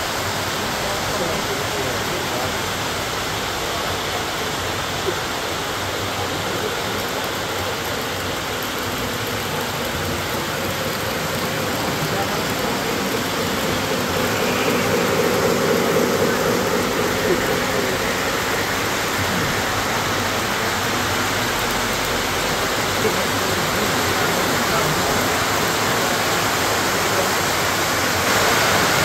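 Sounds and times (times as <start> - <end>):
model trains running on metal track: 0.0 - 29.0.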